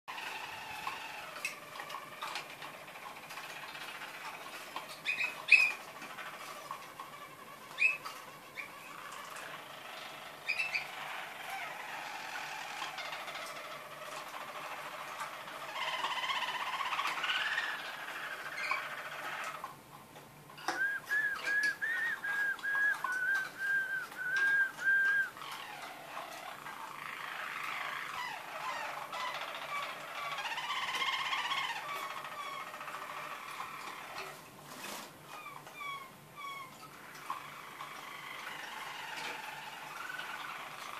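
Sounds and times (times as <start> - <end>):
canaries singing: 0.1 - 40.9
louder canary chirps: 5.0 - 19.7, 20.6 - 34.2, 35.3 - 40.9.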